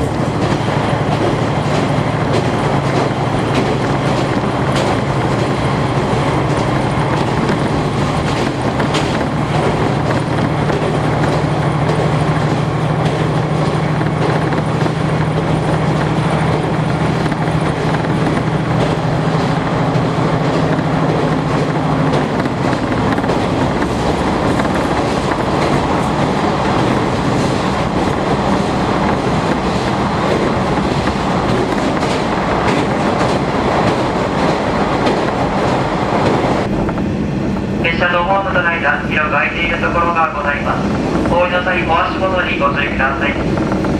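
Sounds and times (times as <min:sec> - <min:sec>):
rail joint clicks: 0:00.0 - 0:43.9
train wheels rumbling: 0:00.0 - 0:43.9.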